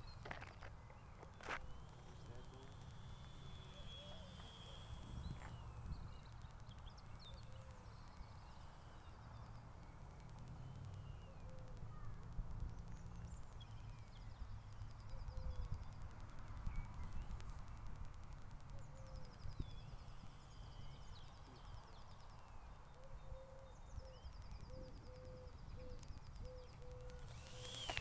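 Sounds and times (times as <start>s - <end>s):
birds chirping and trilling: 0.0s - 16.0s, 18.7s - 28.0s.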